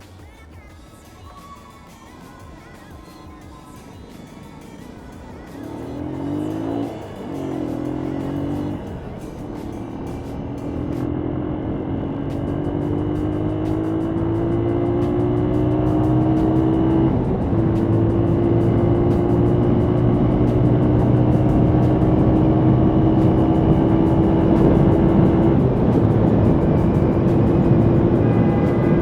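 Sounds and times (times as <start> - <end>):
wind and road noise: 4.2 - 29.0
motorcycle engine accelerating: 4.5 - 29.0.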